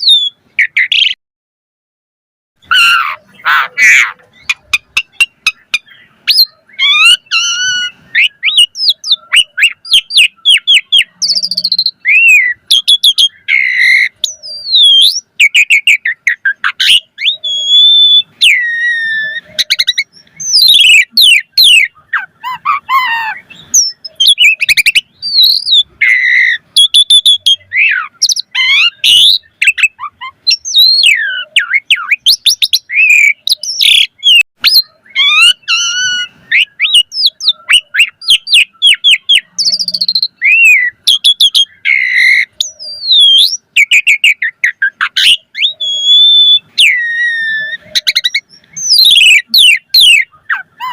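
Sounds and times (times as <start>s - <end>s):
starling singing whistles and trills: 0.0s - 1.2s, 2.6s - 50.9s.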